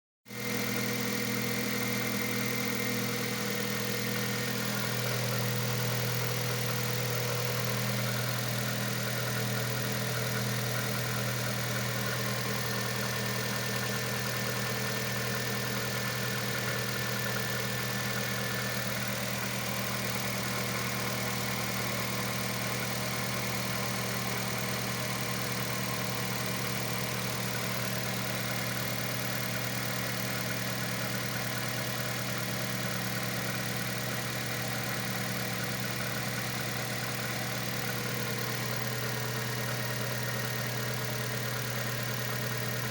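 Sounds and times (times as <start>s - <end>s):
car engine idling with knock: 0.4s - 42.9s.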